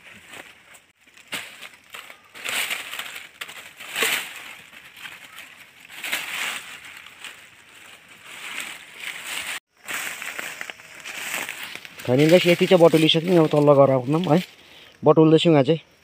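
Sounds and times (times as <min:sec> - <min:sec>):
leaves and vines rustling and crunching: 0:00.0 - 0:14.6.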